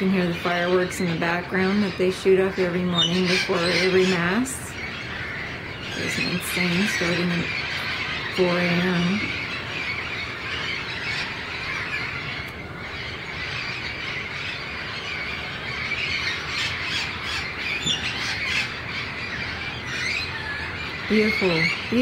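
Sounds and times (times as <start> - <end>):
parrots squawking and screeching: 0.0 - 22.0.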